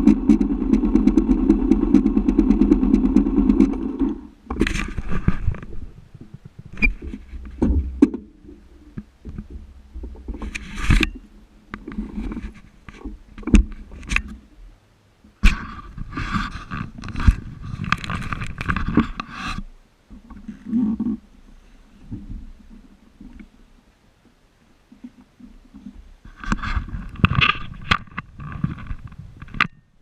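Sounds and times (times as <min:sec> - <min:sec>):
knocks and scrapes: 0:00.0 - 0:14.5, 0:15.4 - 0:23.6, 0:25.0 - 0:29.9.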